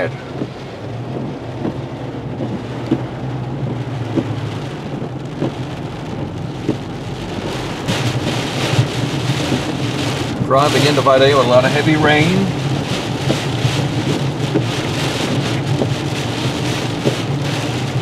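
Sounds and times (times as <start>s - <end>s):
engine and road drone: 0.0s - 18.0s
heavy rain drumming on car: 0.0s - 18.0s.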